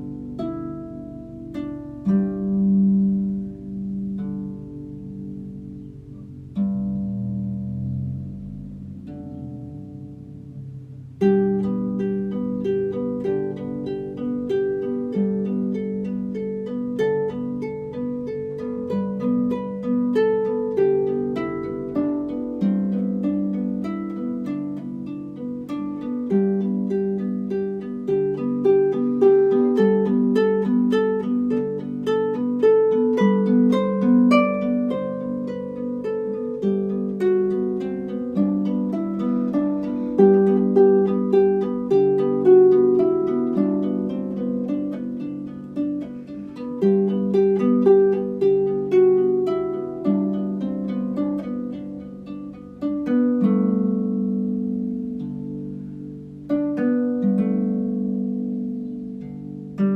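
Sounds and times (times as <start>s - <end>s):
harp music: 0.0s - 59.9s.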